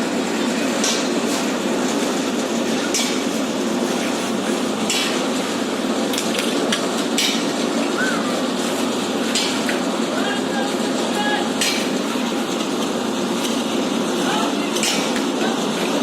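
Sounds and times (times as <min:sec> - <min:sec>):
low work-site rumble: 0:00.0 - 0:16.0.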